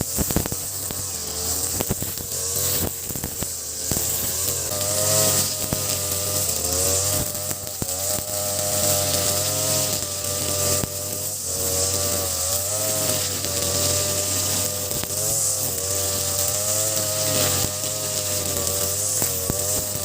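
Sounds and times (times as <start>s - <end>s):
brush cutter engine cutting grass: 0.0s - 20.0s.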